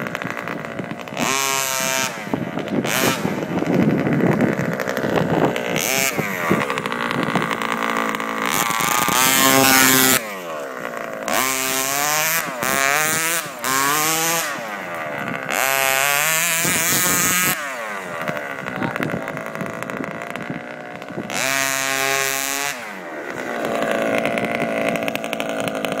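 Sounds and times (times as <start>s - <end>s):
small two-stroke engine revving: 0.0s - 26.0s.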